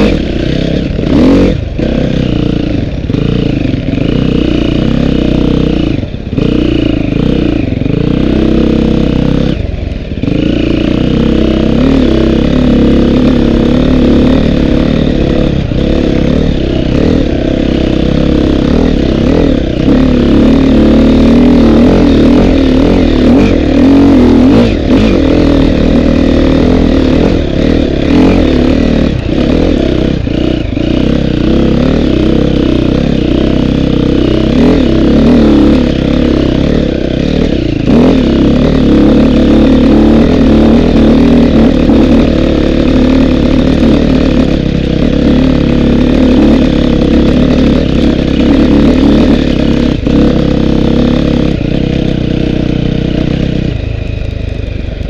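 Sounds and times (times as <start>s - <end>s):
dirt bike engine running hard: 0.0s - 55.0s.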